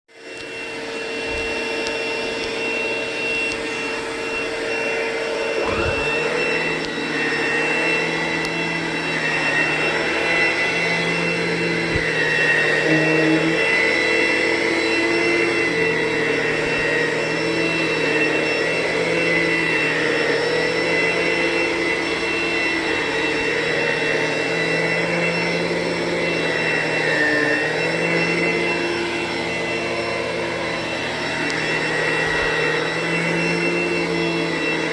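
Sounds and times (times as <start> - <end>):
vacuum cleaner on carpet: 0.1 - 34.9.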